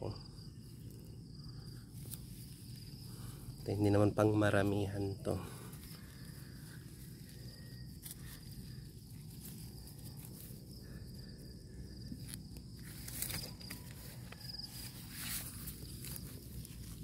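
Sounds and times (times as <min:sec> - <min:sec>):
insects trilling: 0:00.0 - 0:17.0
dry straw rustling: 0:01.9 - 0:11.2, 0:12.1 - 0:17.0.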